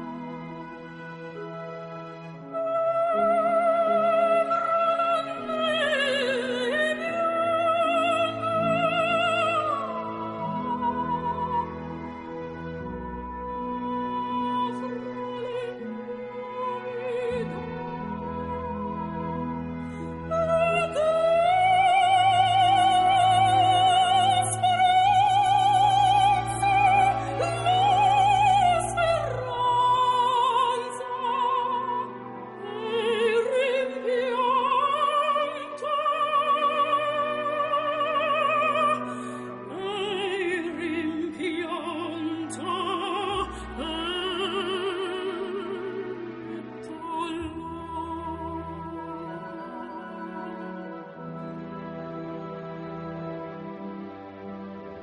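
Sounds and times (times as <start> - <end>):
low musical accompaniment: 0.0 - 55.0
operatic singing with vibrato: 2.4 - 54.1.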